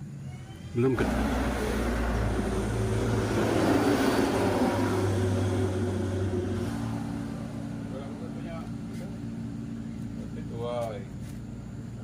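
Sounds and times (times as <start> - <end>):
scooter engine running: 0.9 - 11.4.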